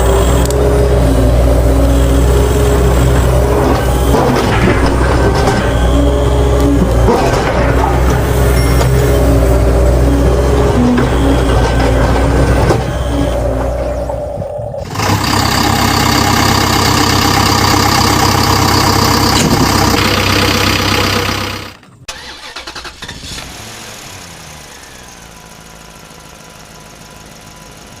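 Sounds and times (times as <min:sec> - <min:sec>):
engine-like running sound: 0:00.0 - 0:28.0.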